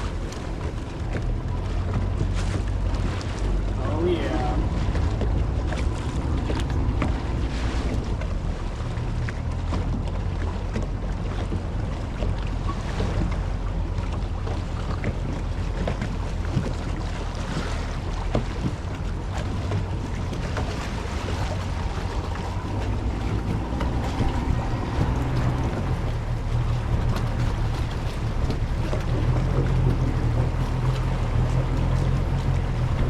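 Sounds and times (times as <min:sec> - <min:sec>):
motorboat engine rumbling: 0:00.0 - 0:33.0
wind buffeting microphone: 0:00.0 - 0:33.0.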